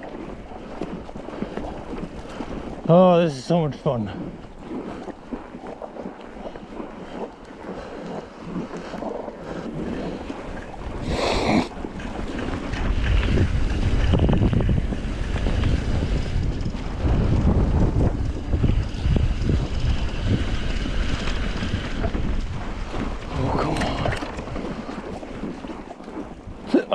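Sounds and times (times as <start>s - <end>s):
bike tyres crunching through snow: 0.0s - 26.9s
wind buffeting microphone: 0.0s - 26.9s.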